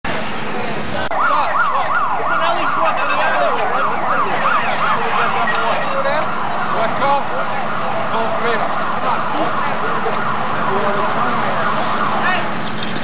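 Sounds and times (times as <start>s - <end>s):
lower wavering siren: 1.0s - 13.0s
siren yelping: 1.0s - 13.0s.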